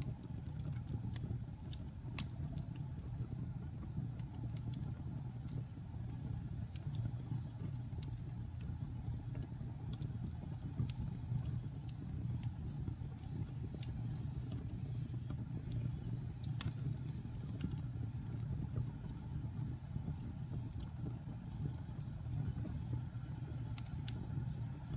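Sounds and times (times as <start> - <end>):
fire low rumble: 0.0 - 24.9
wood fire crackling and popping: 0.0 - 24.9.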